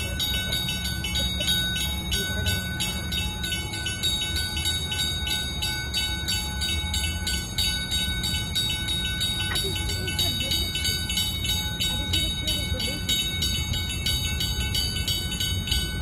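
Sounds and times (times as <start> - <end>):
warning bell ringing: 0.0 - 16.0.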